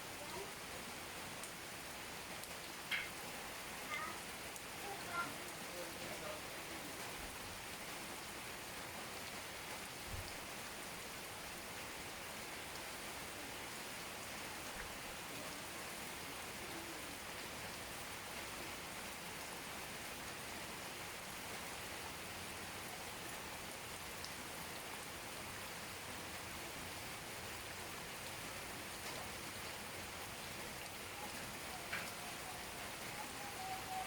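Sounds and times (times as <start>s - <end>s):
steady rain hiss: 0.0s - 34.0s.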